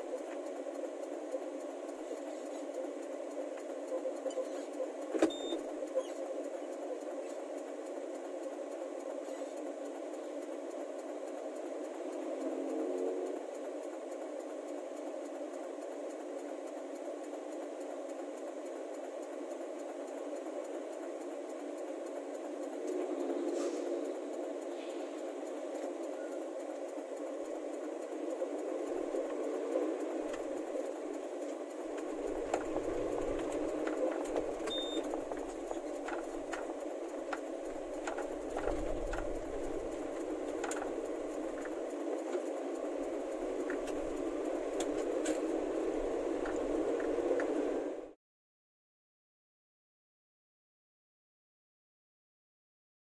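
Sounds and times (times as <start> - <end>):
deep engine rumble: 0.0 - 48.2
road traffic engine noise: 0.0 - 48.2.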